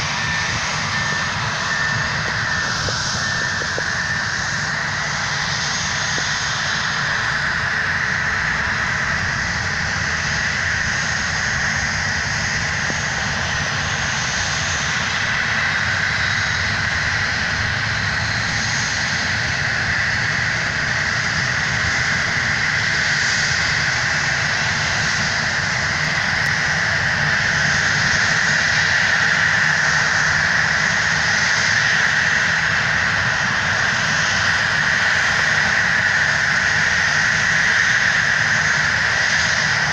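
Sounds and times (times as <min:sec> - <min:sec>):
jet engines whining and rumbling: 0:00.0 - 0:39.9.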